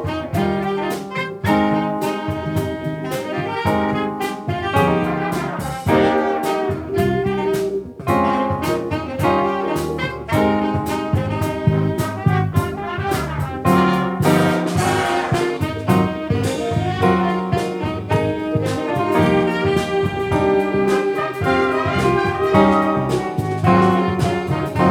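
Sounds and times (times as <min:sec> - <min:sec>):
big band playing jazz: 0:00.0 - 0:24.9.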